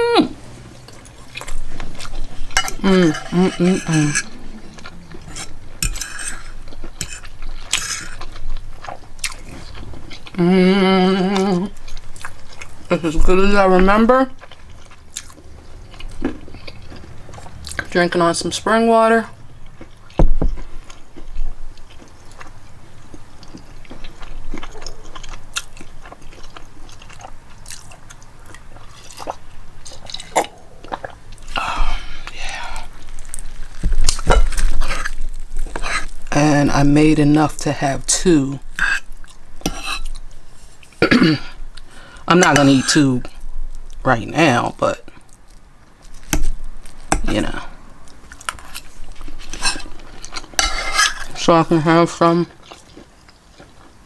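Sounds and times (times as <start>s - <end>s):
person chewing food: 0.4s - 18.0s, 19.4s - 54.0s.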